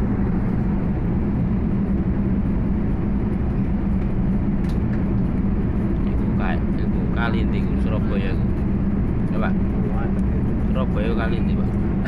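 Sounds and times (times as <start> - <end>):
aircraft cabin engine drone: 0.0 - 12.0
constant low hum: 0.0 - 12.0.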